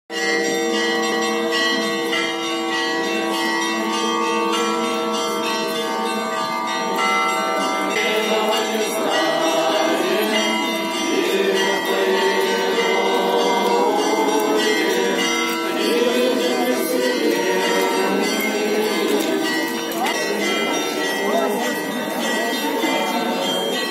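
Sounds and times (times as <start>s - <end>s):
church bells ringing: 0.1s - 23.9s
crowd voices: 0.1s - 23.9s.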